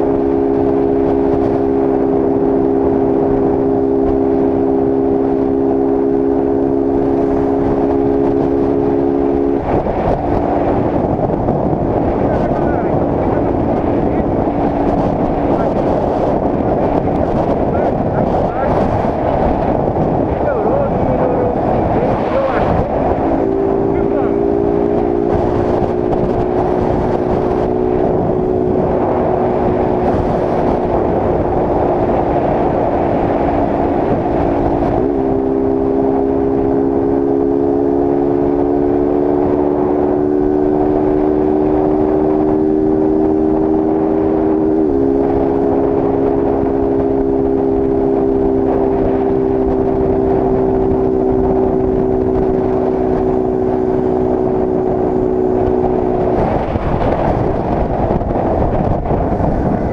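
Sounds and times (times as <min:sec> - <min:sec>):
motorcycle engine pulling hard: 0:00.0 - 0:59.9
wind and road rush: 0:00.0 - 0:59.9.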